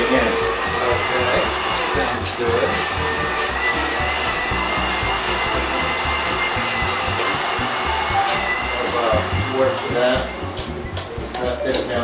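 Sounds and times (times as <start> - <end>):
immersion blender whining: 0.0 - 11.8.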